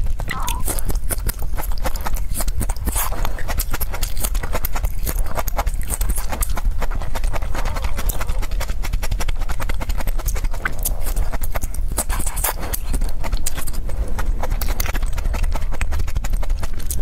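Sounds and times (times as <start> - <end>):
chewing crunchy broccoli: 0.0 - 17.0.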